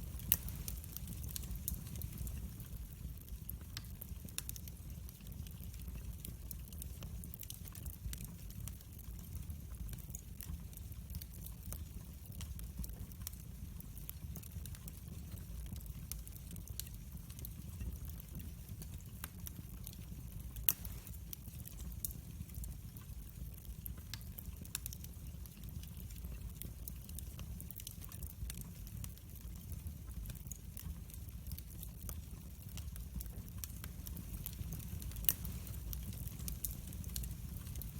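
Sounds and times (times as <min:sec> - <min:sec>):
low rumble of fire: 0:00.0 - 0:37.9
wood fire crackling: 0:00.0 - 0:37.9.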